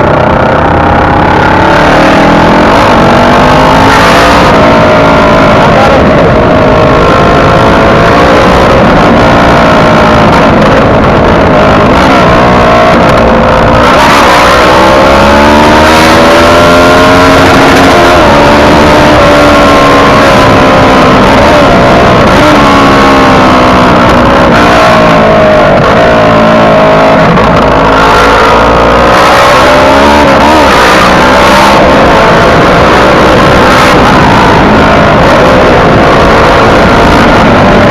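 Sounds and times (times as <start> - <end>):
motorcycle engine revving: 0.0 - 37.9
rushing wind and road noise: 0.0 - 37.9.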